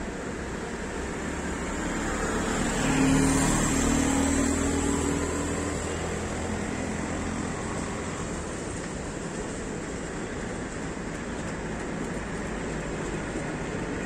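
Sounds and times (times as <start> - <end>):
auto-rickshaw engine passing: 0.0 - 14.0
distant traffic: 0.0 - 14.0.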